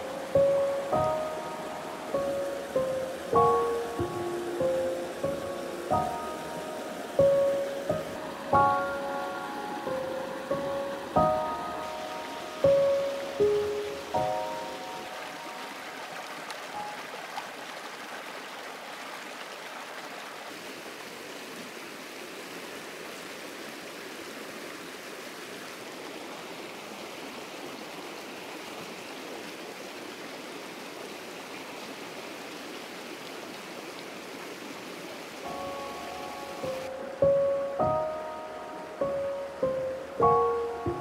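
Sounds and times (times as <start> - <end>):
stream rushing over stones: 0.0 - 41.0.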